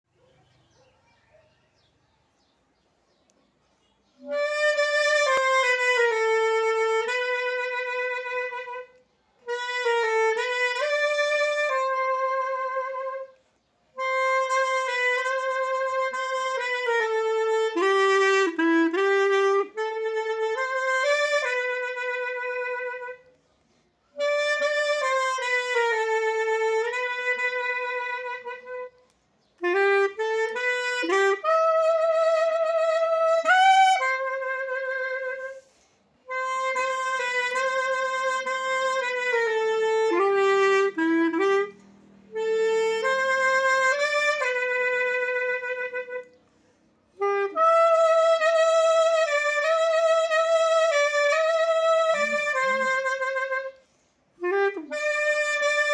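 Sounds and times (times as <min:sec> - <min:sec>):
clarinet playing a slow hymn: 0:04.0 - 0:23.4, 0:24.0 - 0:55.9.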